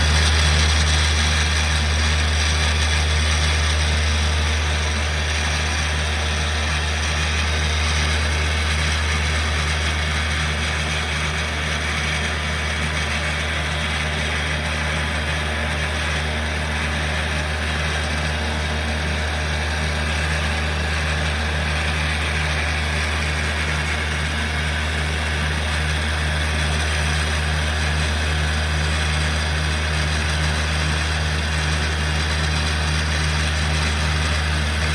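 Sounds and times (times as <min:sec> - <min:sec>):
polishing machine humming: 0:00.0 - 0:34.9.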